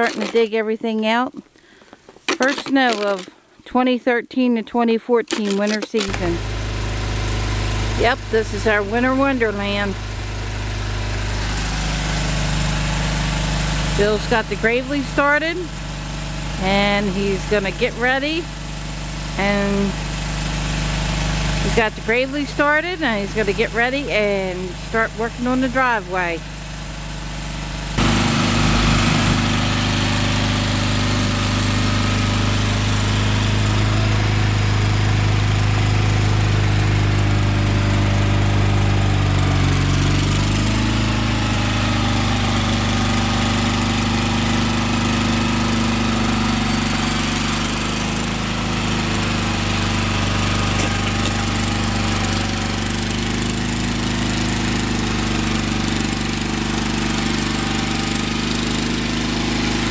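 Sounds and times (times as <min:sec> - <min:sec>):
garden tractor engine running: 0:00.0 - 0:03.9, 0:04.7 - 0:59.9.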